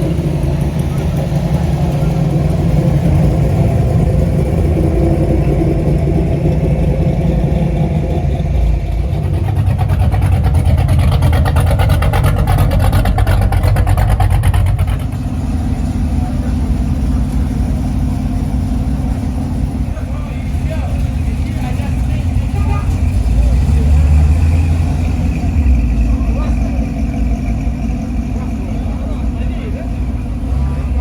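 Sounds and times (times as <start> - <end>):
car engine rumbling: 0.0 - 31.0
fast pulsing exhaust note: 0.0 - 31.0.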